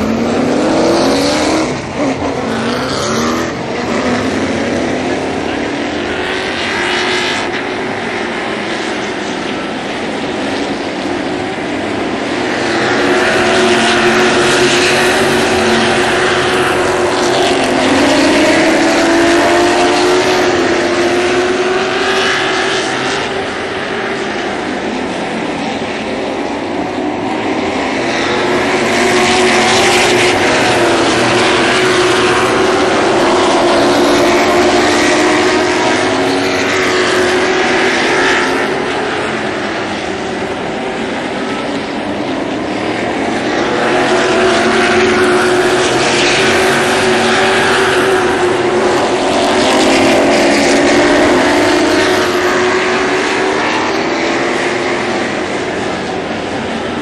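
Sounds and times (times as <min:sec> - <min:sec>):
stock cars racing: 0:00.0 - 0:57.0.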